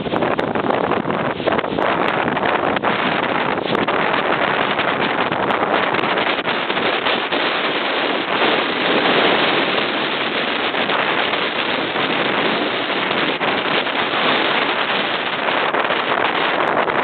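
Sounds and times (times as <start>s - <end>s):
waves breaking on rocky shore: 0.0s - 17.0s.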